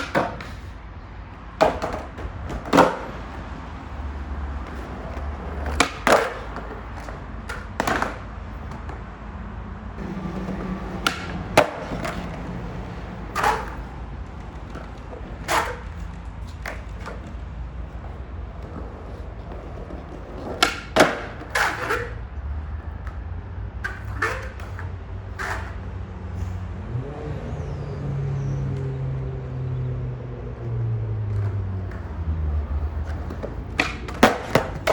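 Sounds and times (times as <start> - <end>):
skateboard clacks: 0.0 - 9.2, 10.0 - 25.8, 30.6 - 34.9
skateboard wheels rolling: 0.0 - 34.9.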